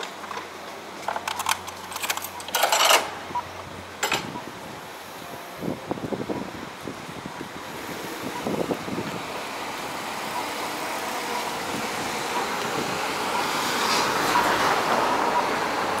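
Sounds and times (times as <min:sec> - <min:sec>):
cars passing: 0:03.1 - 0:16.0.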